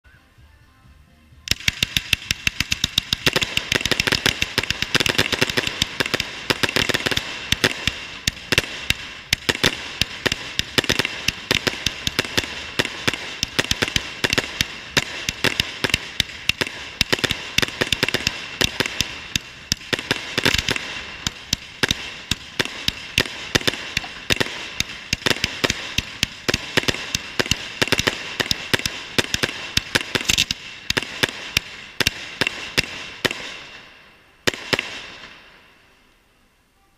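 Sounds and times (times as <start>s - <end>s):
fireworks bangs and crackles: 1.4s - 35.9s.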